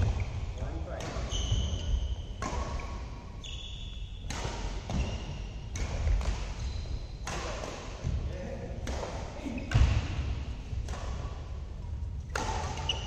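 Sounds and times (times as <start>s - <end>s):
court shoes squeaking: 0.0s - 8.2s, 8.8s - 11.2s, 12.3s - 13.0s
badminton racket hitting shuttlecock: 1.0s - 3.3s, 4.2s - 13.0s.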